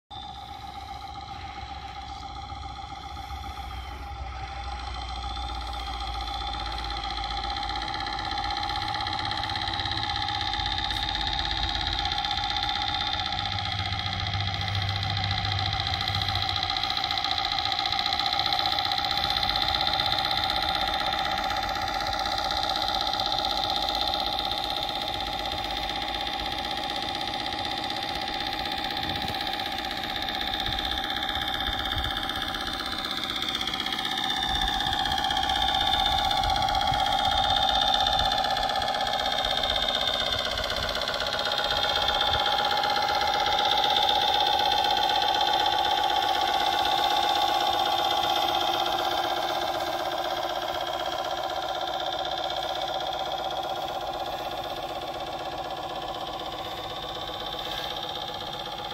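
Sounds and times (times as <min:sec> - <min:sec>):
toy truck motor whining drone: 0:00.1 - 0:58.9.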